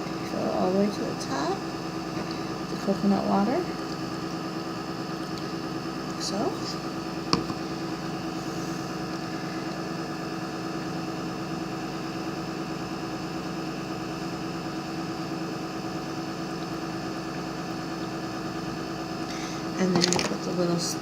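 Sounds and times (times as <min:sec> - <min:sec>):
electrical hum with fixed tones: 0:00.0 - 0:21.0.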